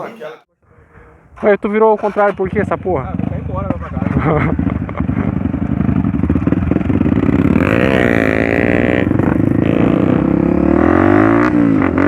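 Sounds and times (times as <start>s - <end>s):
motorcycle engine running: 2.2s - 12.0s.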